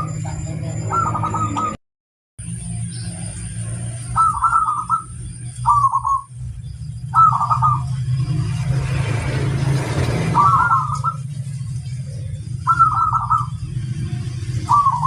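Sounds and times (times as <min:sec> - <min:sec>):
dove stuttering coos: 0:00.0 - 0:01.8, 0:03.1 - 0:06.3, 0:07.0 - 0:15.0
steady low hum: 0:02.4 - 0:15.0.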